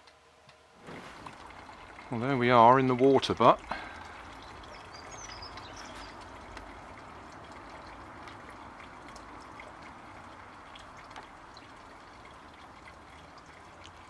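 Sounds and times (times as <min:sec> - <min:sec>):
faint trickling hiss: 0:00.5 - 0:14.0.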